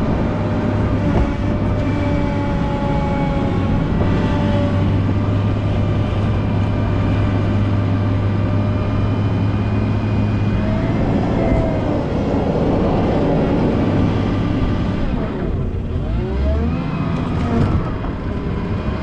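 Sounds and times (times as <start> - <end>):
faint whining tones: 0.0 - 15.9
diesel engine drone: 0.0 - 19.0.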